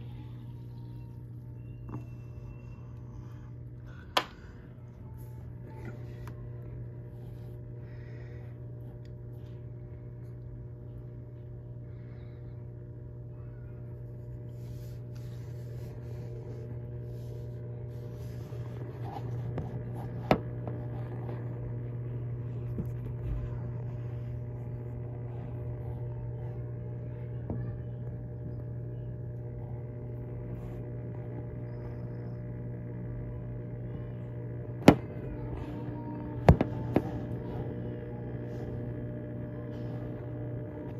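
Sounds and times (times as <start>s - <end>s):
aquarium pump hum: 0.0s - 40.9s.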